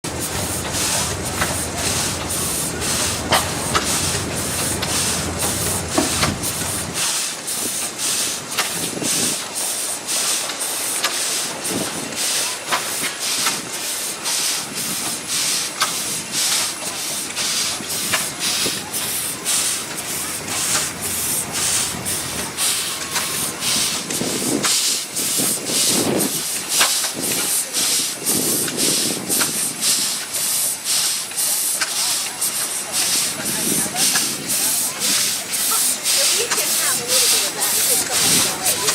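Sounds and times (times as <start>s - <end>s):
steam engine exhaust chuffs: 0.0s - 38.9s
steam hissing: 0.1s - 38.9s.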